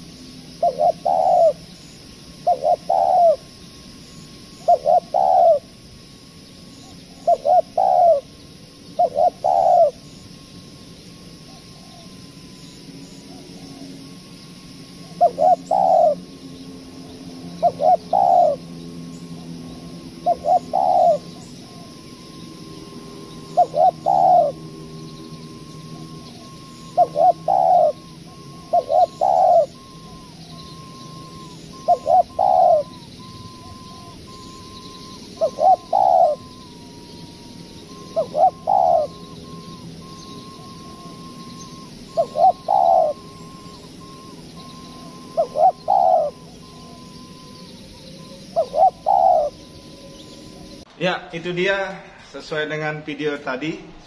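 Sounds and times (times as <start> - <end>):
dove cooing: 0.0 - 50.8.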